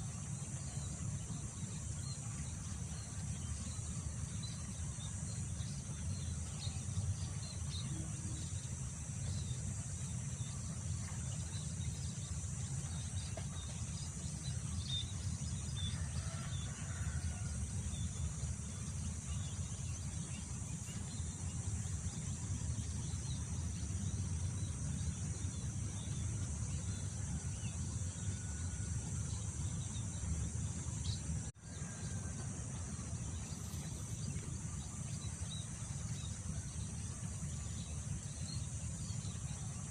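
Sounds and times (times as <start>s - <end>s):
crickets humming: 0.0s - 39.9s.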